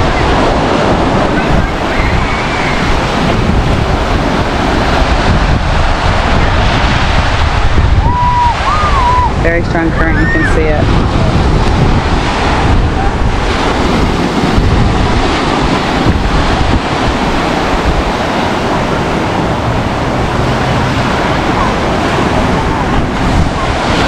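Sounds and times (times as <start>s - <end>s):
surf breaking on beach: 0.0s - 24.0s
wind on microphone: 0.0s - 24.0s.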